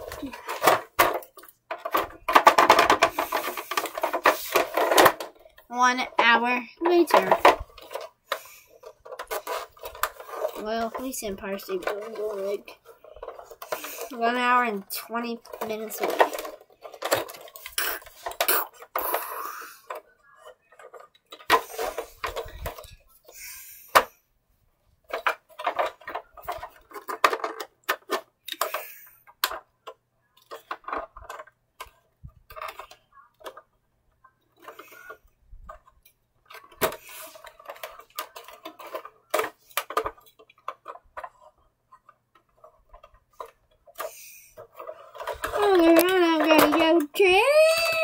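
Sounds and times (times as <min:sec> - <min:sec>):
plastic toy clicking and rattling: 0:00.0 - 0:24.2, 0:25.0 - 0:48.0.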